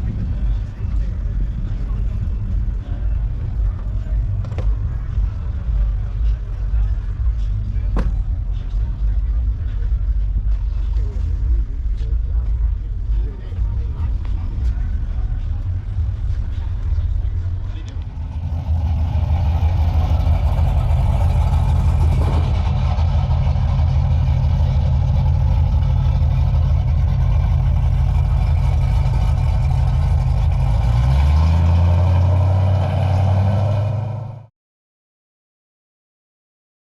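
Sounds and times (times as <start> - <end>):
car engine accelerating: 0.0 - 34.5.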